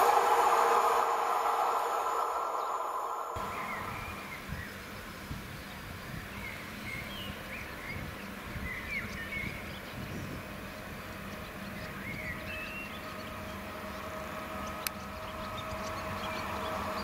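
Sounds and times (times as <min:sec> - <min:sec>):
low outdoor rumble: 0:00.0 - 0:17.0
small birds chirping: 0:03.4 - 0:17.0.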